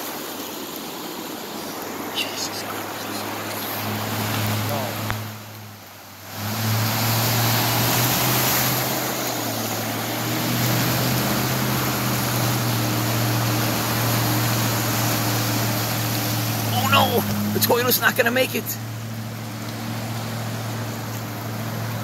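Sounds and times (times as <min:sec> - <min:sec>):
floodwater rushing: 0:00.0 - 0:22.0
low engine hum: 0:00.2 - 0:22.0.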